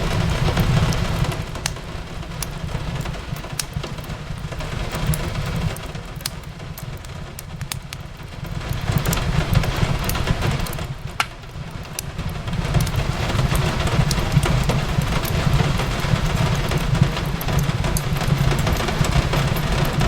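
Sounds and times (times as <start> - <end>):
fireplace crackling and popping: 0.0 - 20.0
rain hiss: 0.0 - 20.0.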